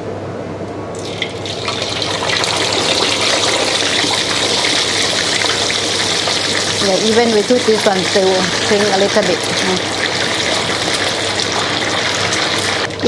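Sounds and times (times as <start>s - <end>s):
hot oil sizzling in deep fryer: 1.0s - 13.0s.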